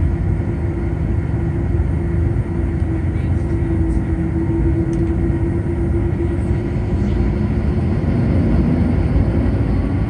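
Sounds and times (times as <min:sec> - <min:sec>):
jet engines rumbling in cabin: 0:00.0 - 0:10.0
steady hum: 0:00.0 - 0:10.0.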